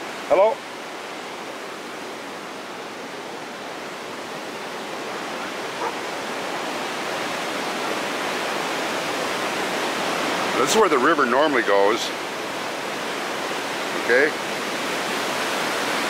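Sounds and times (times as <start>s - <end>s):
river rushing through rapids: 0.0s - 16.0s.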